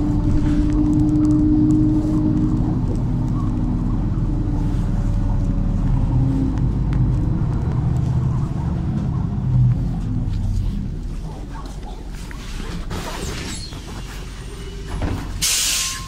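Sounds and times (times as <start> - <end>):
bus engine whine: 0.0 - 16.0.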